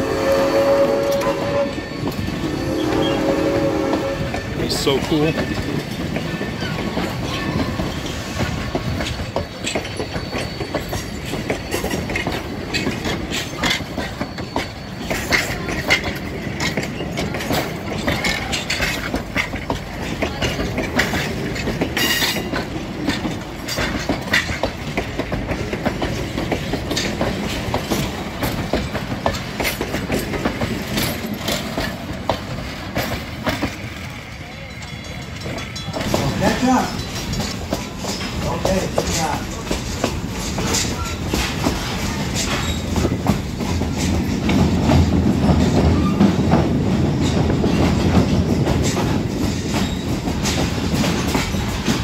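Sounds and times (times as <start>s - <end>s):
train rumble: 0.0s - 52.0s
train wheels clanking over track: 0.0s - 52.0s.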